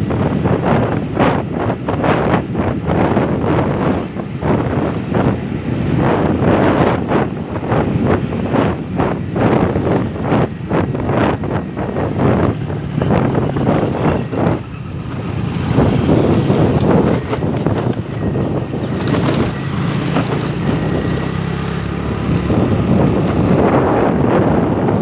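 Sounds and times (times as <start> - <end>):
motorcycle engine humming: 0.0 - 25.0
wind buffeting the microphone: 0.0 - 25.0.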